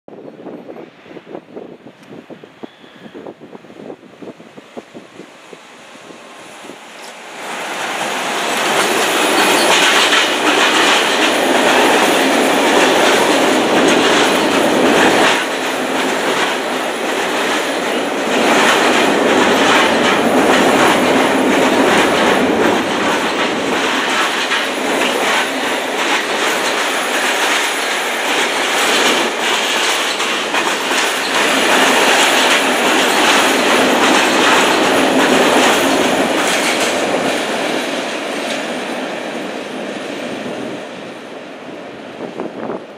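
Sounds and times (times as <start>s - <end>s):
train wheels clattering over rails: 6.0s - 40.9s.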